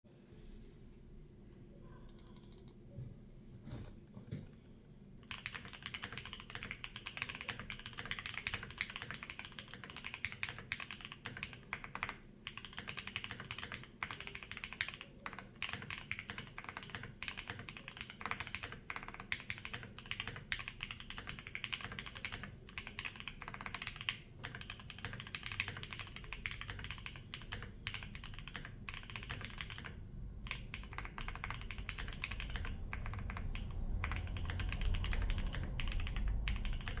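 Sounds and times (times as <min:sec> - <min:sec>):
typing on mechanical keyboard: 0:02.1 - 0:02.8, 0:05.2 - 0:37.0.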